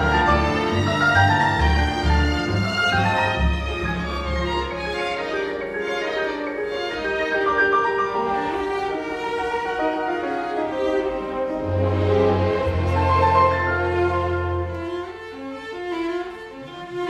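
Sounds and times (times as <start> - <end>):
string orchestra playing: 0.0 - 17.0.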